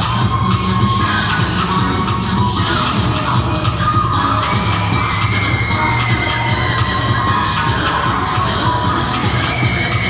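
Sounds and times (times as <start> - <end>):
hip hop music over loudspeakers: 0.0 - 10.0.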